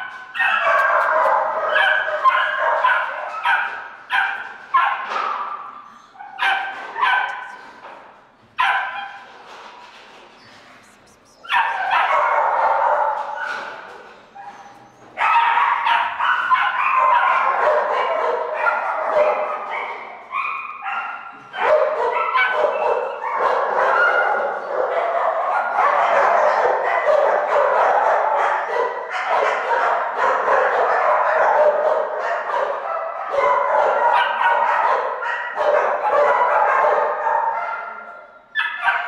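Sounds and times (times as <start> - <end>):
dogs barking and yipping: 0.0 - 8.0, 8.6 - 9.6, 10.5 - 39.0.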